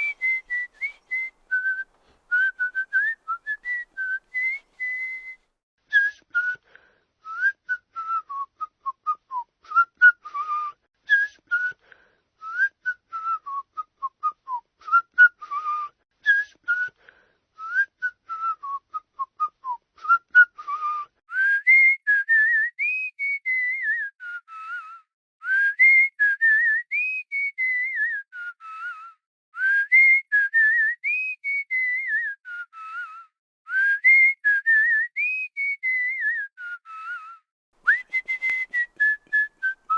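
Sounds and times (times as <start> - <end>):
person whistling: 0.0 - 6.7, 7.3 - 39.9.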